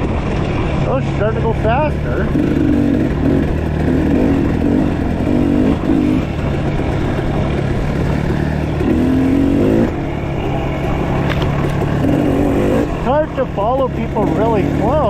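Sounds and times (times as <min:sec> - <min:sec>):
off-road motorcycle engines revving: 0:00.0 - 0:15.0.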